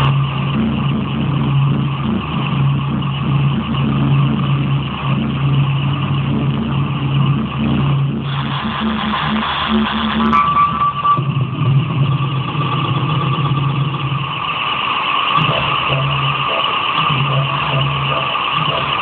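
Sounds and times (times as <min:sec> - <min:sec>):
pulsing electronic drone: 0:00.0 - 0:19.0.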